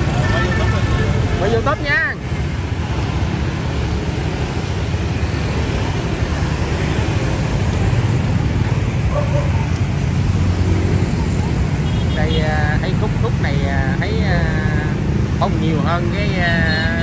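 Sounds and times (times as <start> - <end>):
low traffic rumble: 0.0 - 17.0
motorbikes and cars passing: 0.0 - 17.0.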